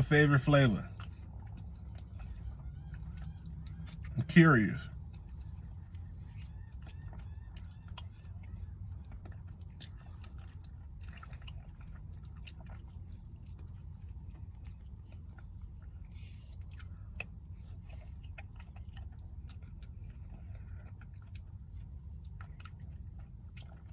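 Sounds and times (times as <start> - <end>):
person chewing with wet clicks: 0.0 - 23.9
steady low hum: 0.0 - 23.9.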